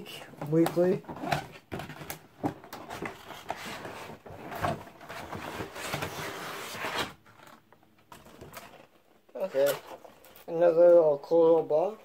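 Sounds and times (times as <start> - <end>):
cardboard rustling and scraping: 0.4 - 10.6.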